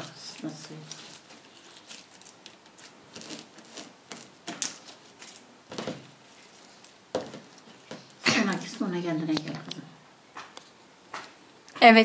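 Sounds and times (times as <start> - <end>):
slime being kneaded by hand: 0.0 - 10.6.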